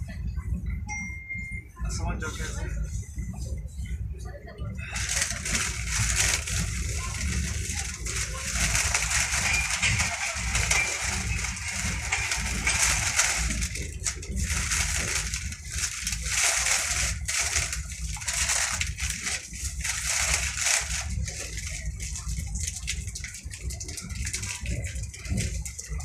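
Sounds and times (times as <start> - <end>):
train wheels rumbling: 4.7 - 26.0.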